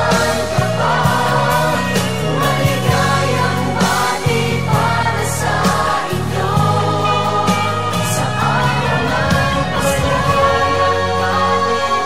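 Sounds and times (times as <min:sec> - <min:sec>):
song with singing and held chords: 0:00.0 - 0:12.0.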